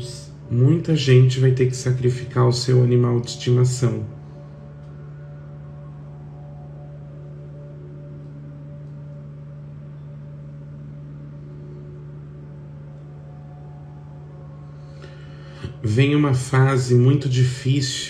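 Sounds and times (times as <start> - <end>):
faint steady tones: 0.0 - 18.0
steady low hum: 0.0 - 18.0.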